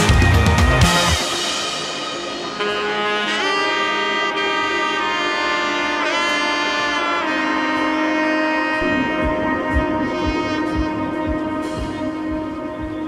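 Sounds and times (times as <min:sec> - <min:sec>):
lead instrument sliding notes: 0:00.0 - 0:13.0.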